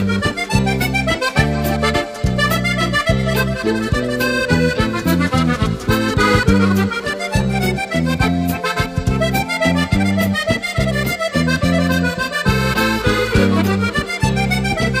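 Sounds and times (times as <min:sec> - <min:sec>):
accordion music: 0:00.0 - 0:15.0
short bass notes: 0:00.0 - 0:15.0.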